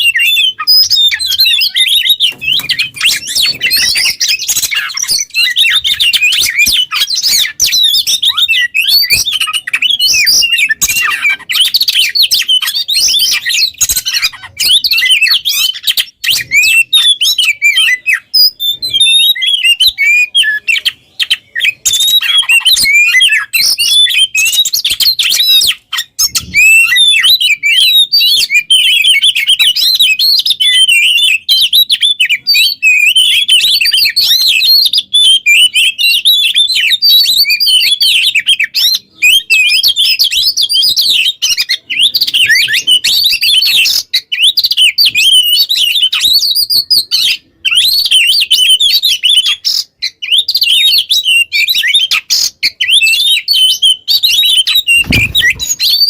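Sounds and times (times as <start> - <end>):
magpie-robin singing: 0.0 - 56.0.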